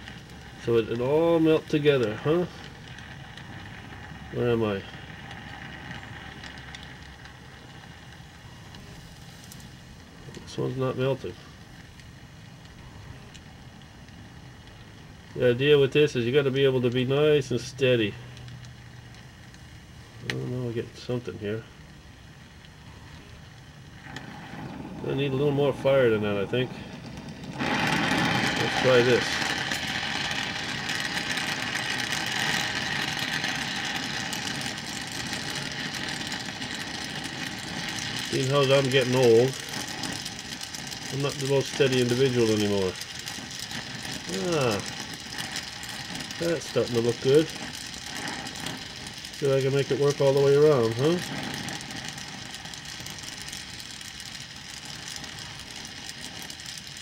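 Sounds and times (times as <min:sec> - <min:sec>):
welding torch flame hissing: 0:00.0 - 0:57.0.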